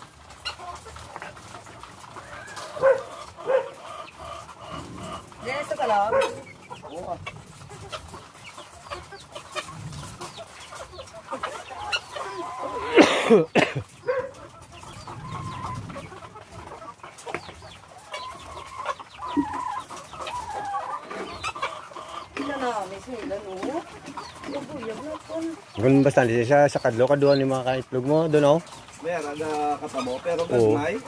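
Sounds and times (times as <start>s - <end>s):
hens clucking: 0.0s - 31.0s.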